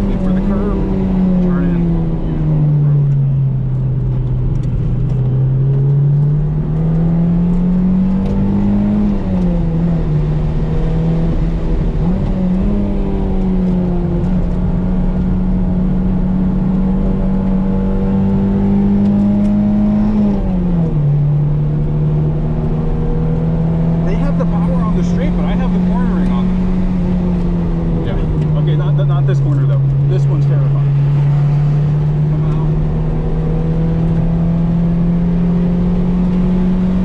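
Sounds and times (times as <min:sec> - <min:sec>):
road and wind noise: 0:00.0 - 0:37.0.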